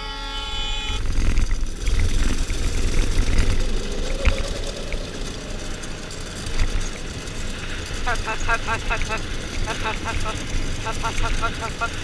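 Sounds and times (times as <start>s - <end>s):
dirt bike engine: 0.0s - 12.0s
heavy low rumble: 0.5s - 12.0s.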